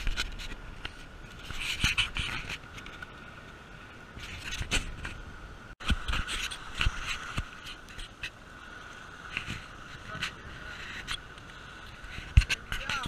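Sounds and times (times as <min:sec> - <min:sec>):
surf washing and splashing: 0:00.0 - 0:13.0.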